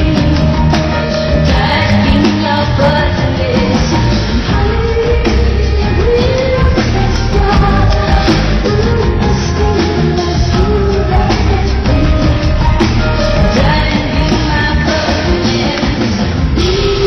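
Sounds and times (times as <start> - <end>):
live rock band playing: 0.0 - 17.0
woman singing: 0.0 - 17.0.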